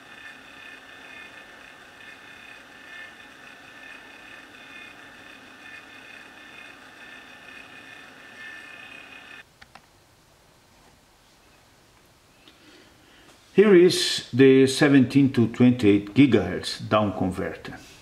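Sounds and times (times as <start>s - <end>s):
faint steady whine: 0.0s - 14.4s.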